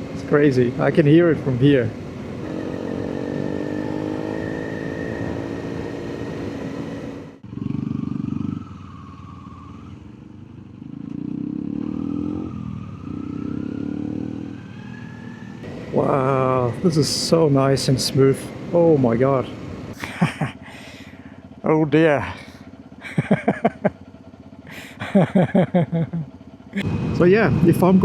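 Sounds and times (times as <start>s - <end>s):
motorcycle engine while riding: 0.0s - 28.0s.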